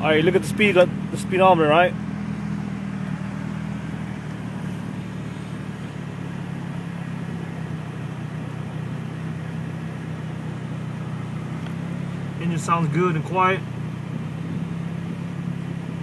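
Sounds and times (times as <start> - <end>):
car engine low hum: 0.0 - 16.0
road noise: 0.0 - 16.0.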